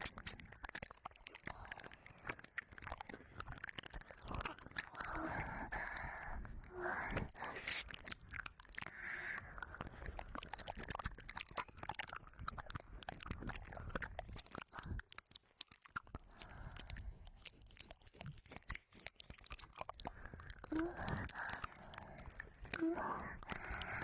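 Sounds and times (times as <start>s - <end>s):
wet mouth sounds and licking: 0.0s - 24.0s.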